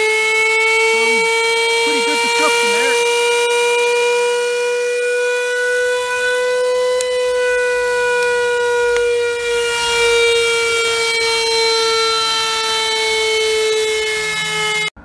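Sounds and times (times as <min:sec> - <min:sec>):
motor high whine: 0:00.0 - 0:15.0.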